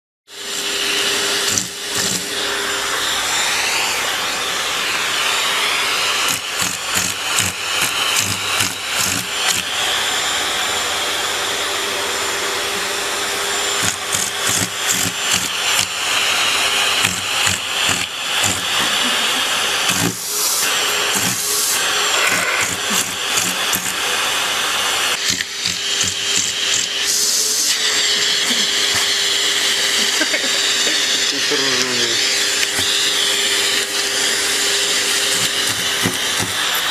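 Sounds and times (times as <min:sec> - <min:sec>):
vacuum cleaner running: 0:00.3 - 0:36.9
vacuum nozzle sputtering: 0:00.4 - 0:36.9.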